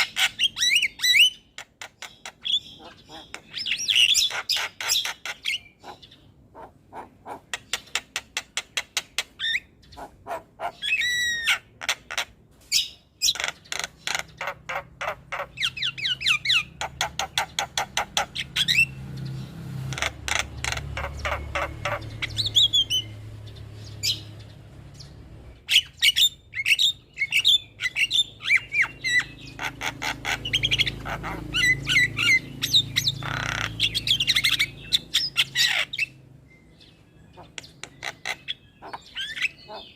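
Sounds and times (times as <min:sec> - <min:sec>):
myna chattering and squawking: 0:00.0 - 0:12.4, 0:13.2 - 0:18.8, 0:19.9 - 0:23.0, 0:26.6 - 0:36.2, 0:37.3 - 0:39.9.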